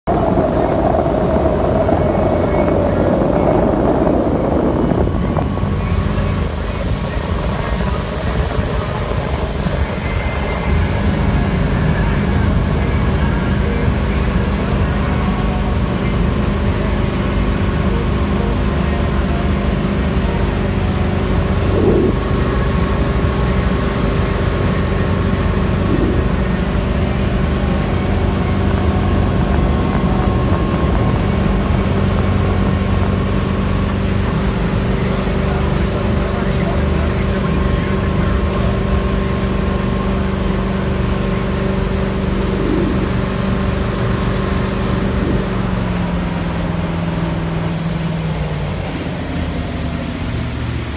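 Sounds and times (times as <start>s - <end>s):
high rushing noise: 0.0s - 14.7s, 20.7s - 50.9s
motorboat engine droning: 0.0s - 50.9s.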